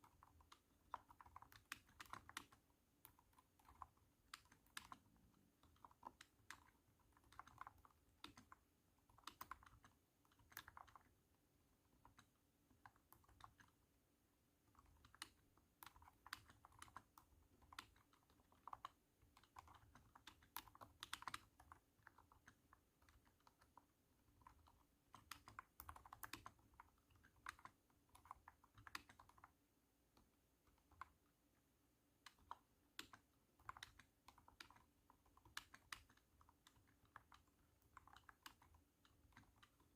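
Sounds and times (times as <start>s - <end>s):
thunky keyboard keystrokes: 0.0s - 11.1s, 14.7s - 29.6s, 32.2s - 39.9s.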